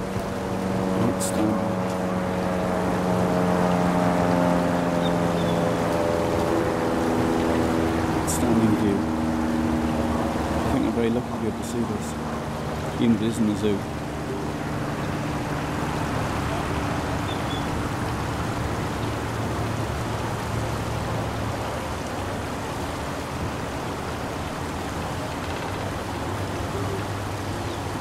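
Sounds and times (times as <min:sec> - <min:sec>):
distant freeway traffic roar: 0:00.0 - 0:28.0.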